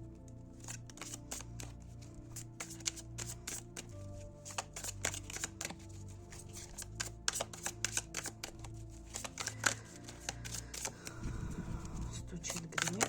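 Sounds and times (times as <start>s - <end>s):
soft background music: 0.0s - 13.0s
cards being shuffled: 0.2s - 13.0s.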